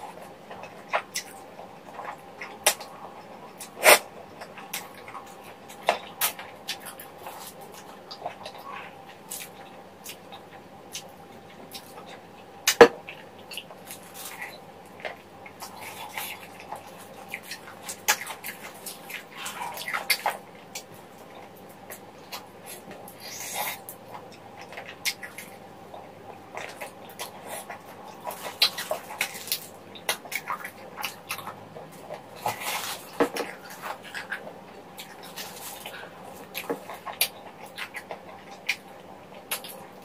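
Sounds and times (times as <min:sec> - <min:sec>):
sucking and chewing: 0:00.0 - 0:40.0.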